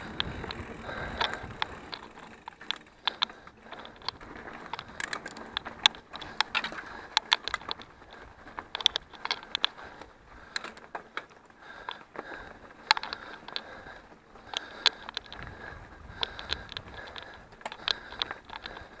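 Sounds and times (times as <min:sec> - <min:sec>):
tyres rustling on gravel: 0:00.0 - 0:19.0.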